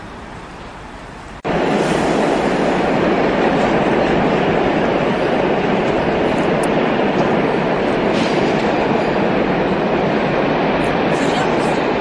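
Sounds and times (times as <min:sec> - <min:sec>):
steady background noise: 0:00.0 - 0:12.0
train rolling over steel bridge: 0:00.0 - 0:12.0.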